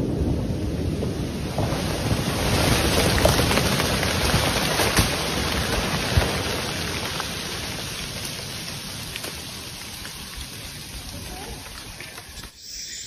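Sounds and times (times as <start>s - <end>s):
debris falling hiss: 1.4s - 13.0s.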